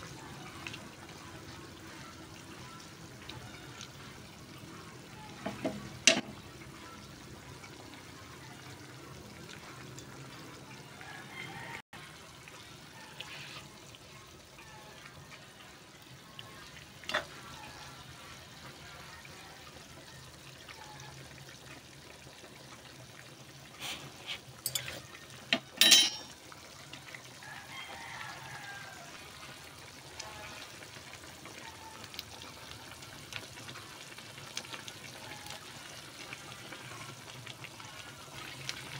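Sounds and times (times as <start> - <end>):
soup simmering and bubbling: 0.0 - 38.9.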